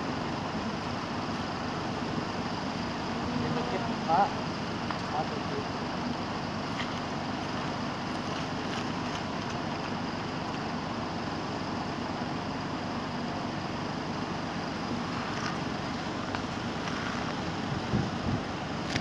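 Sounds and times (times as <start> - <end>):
crane engine running: 0.0 - 19.0.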